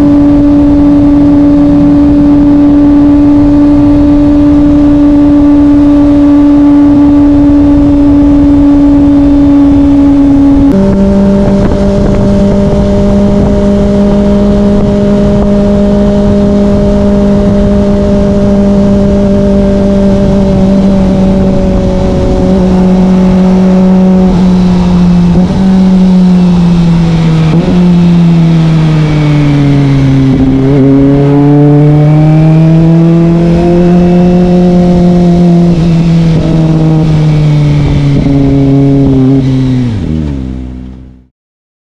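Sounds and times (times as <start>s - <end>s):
motorcycle engine revving: 0.0s - 41.3s.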